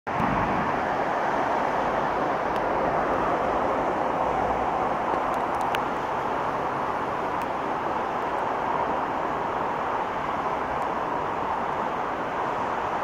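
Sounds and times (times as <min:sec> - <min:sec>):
distant traffic rumble: 0:00.1 - 0:13.0.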